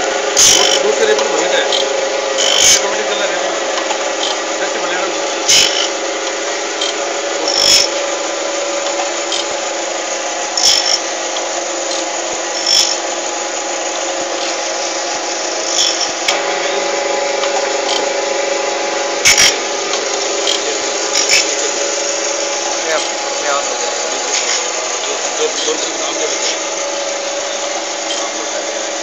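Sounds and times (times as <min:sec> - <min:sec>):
surface grinder humming: 0:00.0 - 0:29.0.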